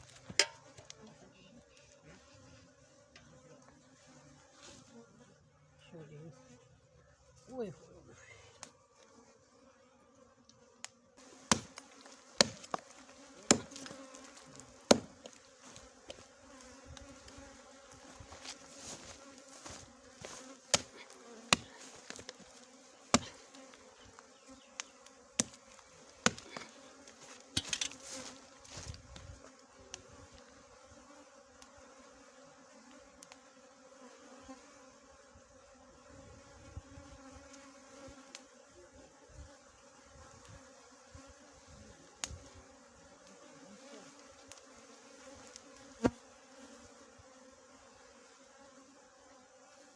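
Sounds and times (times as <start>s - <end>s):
bees buzzing: 0.0s - 49.9s.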